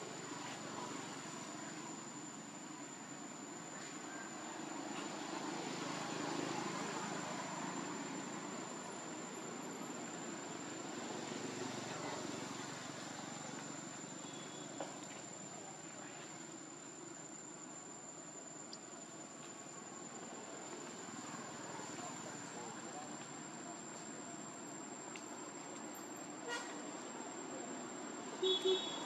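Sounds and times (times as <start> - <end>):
background hiss: 0.0 - 29.0
insects droning: 0.0 - 29.0.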